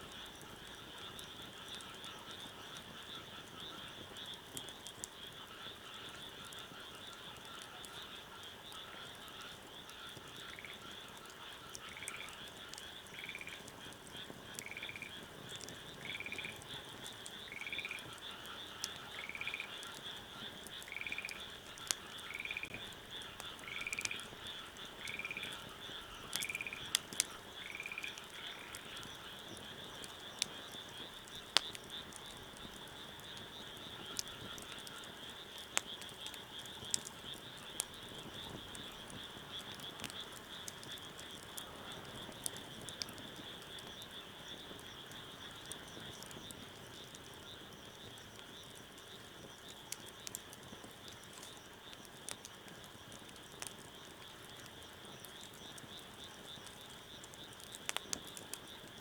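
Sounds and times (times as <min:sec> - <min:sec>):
wood fire crackling: 0:00.0 - 0:59.0
frogs calling: 0:00.1 - 0:59.0.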